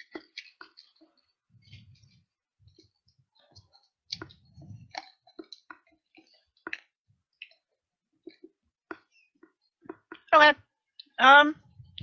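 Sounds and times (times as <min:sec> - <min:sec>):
mouth clicks and crunches: 0:00.0 - 0:11.2.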